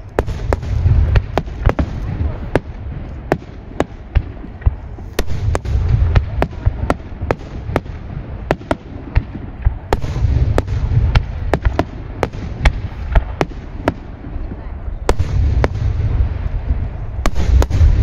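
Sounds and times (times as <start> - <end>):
fireworks cracking: 0.0 - 18.0
rolling rumble of booms: 0.0 - 18.0.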